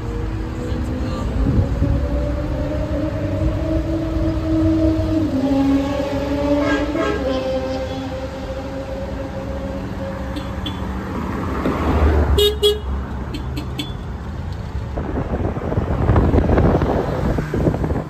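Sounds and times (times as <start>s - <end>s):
cars driving past: 0.0s - 18.0s.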